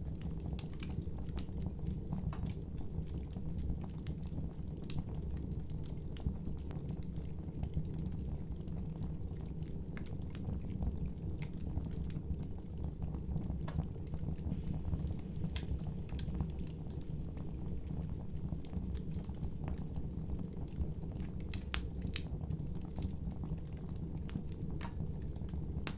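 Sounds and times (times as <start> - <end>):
campfire flames rushing: 0.0 - 25.9
fire crackling and popping: 0.0 - 25.9.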